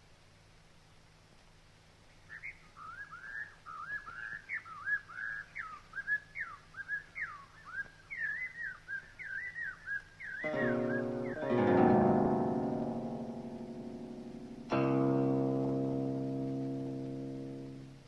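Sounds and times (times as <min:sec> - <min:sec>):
songbird chirping and warbling: 0:02.2 - 0:18.0.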